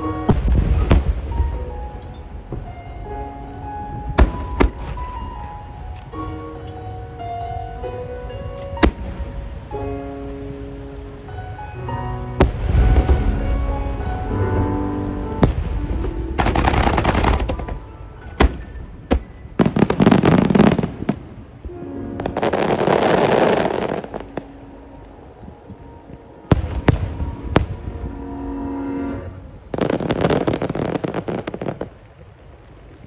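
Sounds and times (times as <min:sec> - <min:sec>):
firework bangs: 0:00.0 - 0:07.0, 0:07.9 - 0:28.3, 0:29.1 - 0:32.2
music playing: 0:00.0 - 0:20.9, 0:21.6 - 0:30.3
firework crackling: 0:00.0 - 0:28.2, 0:29.2 - 0:33.0.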